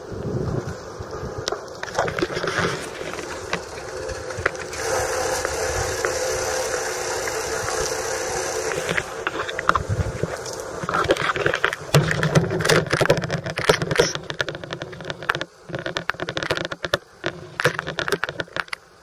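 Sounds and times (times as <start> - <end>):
bicycle rattling over rough street: 0.0 - 18.9.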